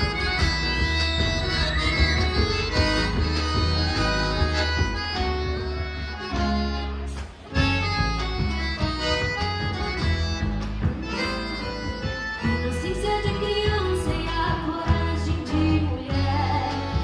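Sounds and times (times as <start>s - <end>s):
accordion: 0.0s - 17.0s
acoustic guitar: 0.0s - 17.0s
bass: 0.0s - 17.0s.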